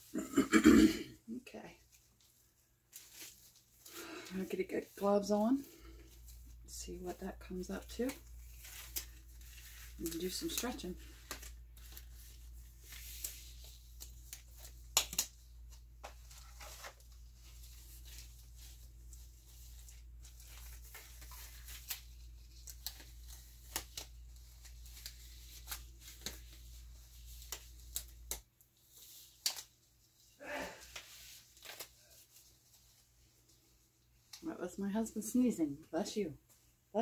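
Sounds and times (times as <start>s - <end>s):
crinkly rustles: 1.6s - 35.5s.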